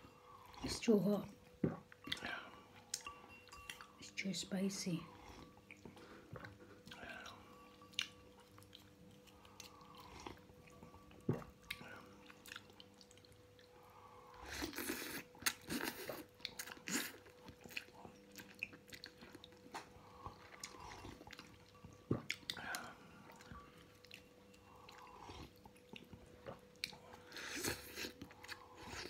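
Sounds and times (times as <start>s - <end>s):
person chewing: 1.6s - 4.0s, 5.1s - 29.0s.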